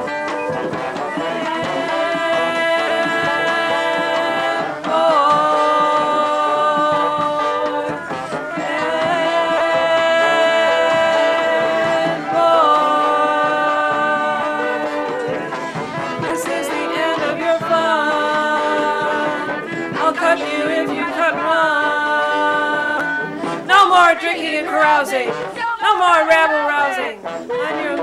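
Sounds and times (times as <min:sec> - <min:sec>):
brass band playing held chords: 0:00.0 - 0:28.0.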